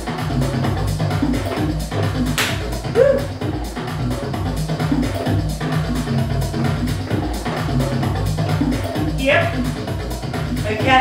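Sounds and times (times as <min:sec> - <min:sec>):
electronic dance music: 0:00.0 - 0:11.0
steady kick drum beat: 0:00.0 - 0:11.0.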